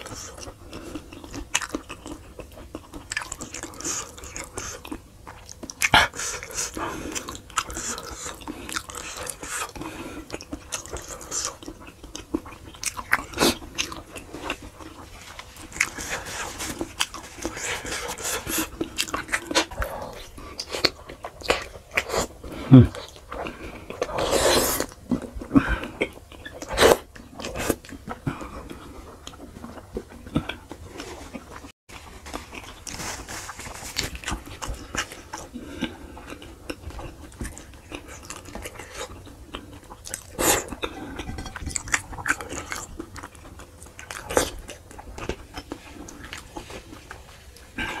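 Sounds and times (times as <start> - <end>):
man chewing: 0.0 - 48.0.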